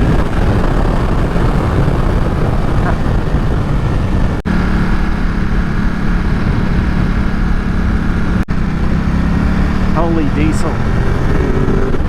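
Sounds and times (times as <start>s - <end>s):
road and wind noise: 0.0s - 12.0s
vehicle engine running: 0.0s - 12.0s.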